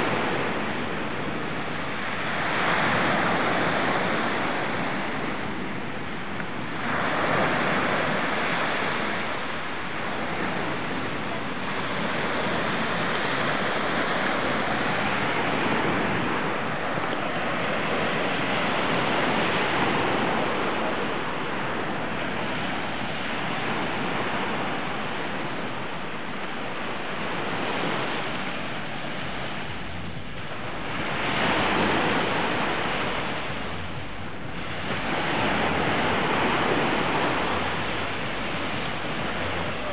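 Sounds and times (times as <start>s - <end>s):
small waves washing up beach: 0.0s - 39.9s.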